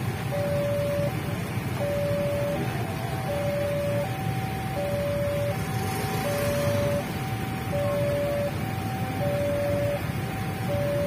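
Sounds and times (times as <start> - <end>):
motorcycle engines idling: 0.0 - 11.0
two-tone crossing alarm: 0.0 - 11.0.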